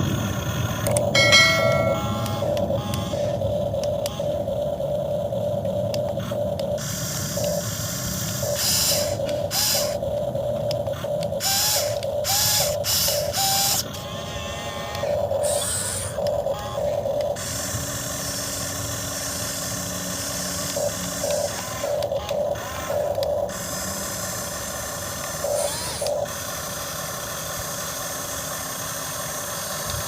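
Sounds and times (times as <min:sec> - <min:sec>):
electric motors and gears whining: 0:00.0 - 0:30.0.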